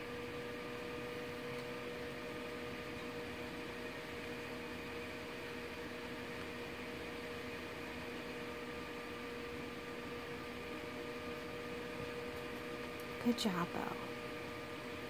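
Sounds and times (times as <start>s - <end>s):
constant electrical tone: 0.0s - 15.0s.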